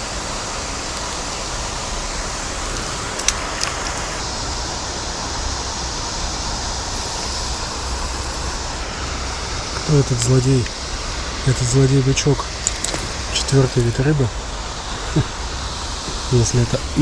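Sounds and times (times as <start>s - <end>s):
rushing flowing water: 0.0s - 17.0s.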